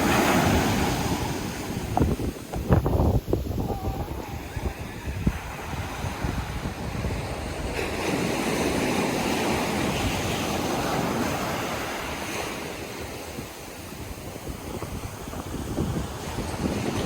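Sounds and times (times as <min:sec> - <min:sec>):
sea waves breaking on beach: 0:00.0 - 0:17.0
wind rumbling on microphone: 0:00.0 - 0:17.0.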